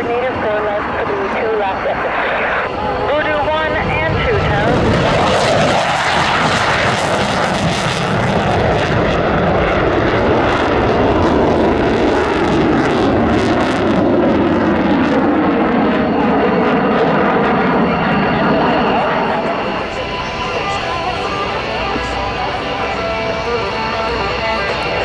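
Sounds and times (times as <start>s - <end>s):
jet engines flying past: 0.0s - 25.0s.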